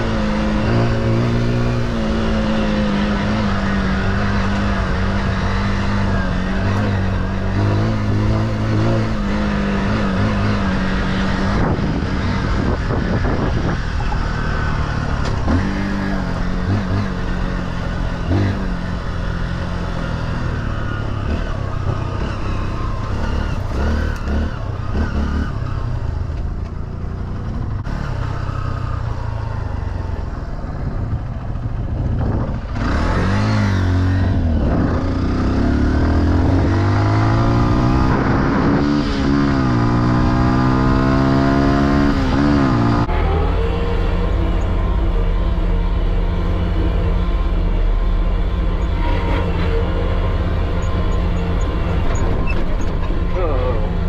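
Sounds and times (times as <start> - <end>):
off-road motorcycle engine revving: 0.0 - 54.0.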